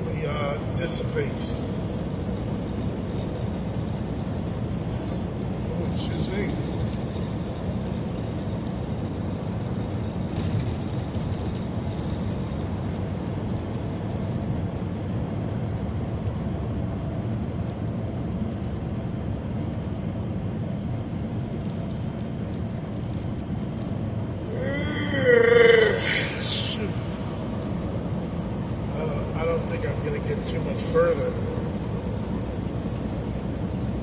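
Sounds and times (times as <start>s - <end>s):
truck road and engine rumble: 0.0s - 34.0s.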